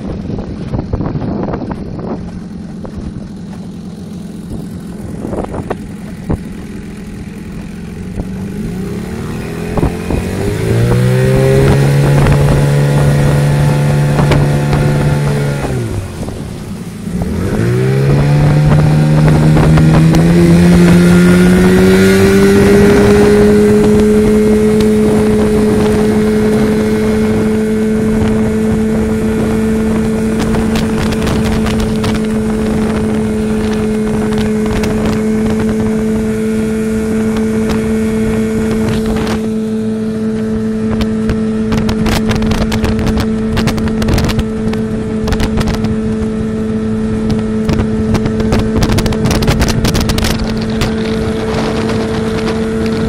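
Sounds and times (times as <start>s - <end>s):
outboard motor revving: 0.0s - 53.0s.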